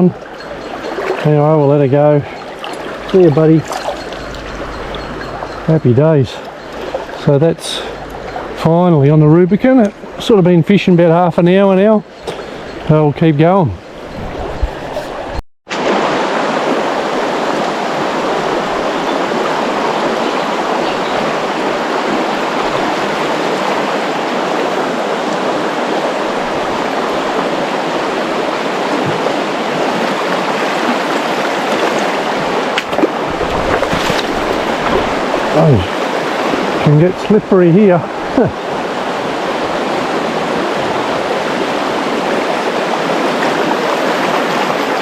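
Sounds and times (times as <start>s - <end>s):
river water rushing: 0.0s - 10.7s, 13.9s - 45.0s.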